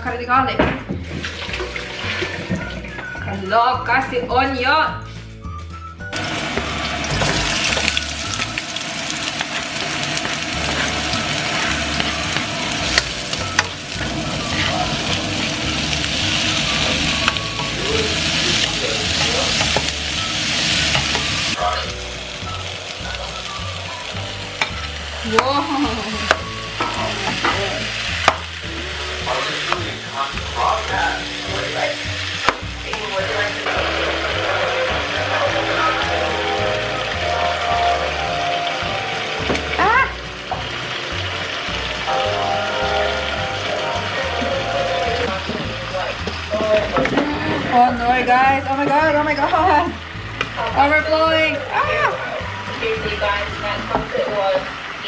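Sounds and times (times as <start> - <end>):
food sizzling in a wok: 6.1 - 55.0.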